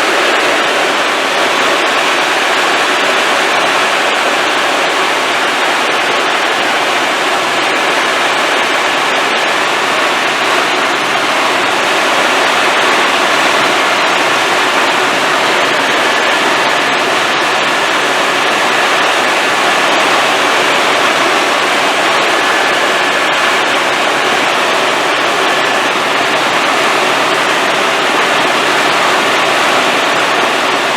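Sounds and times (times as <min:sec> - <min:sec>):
faint high whine: 0:00.0 - 0:30.9
helicopter engine and rotor noise: 0:00.0 - 0:30.9.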